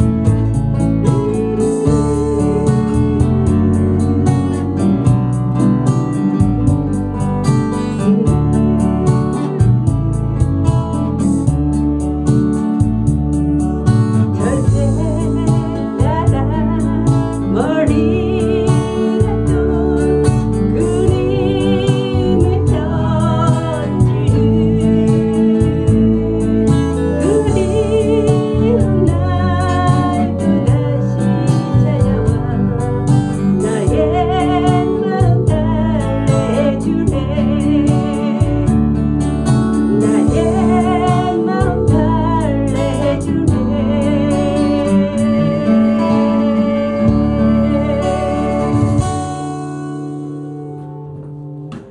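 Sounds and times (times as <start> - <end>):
woman singing folk song: 0.0 - 5.7, 6.3 - 11.7, 14.3 - 49.6
strummed acoustic guitar: 0.0 - 51.9.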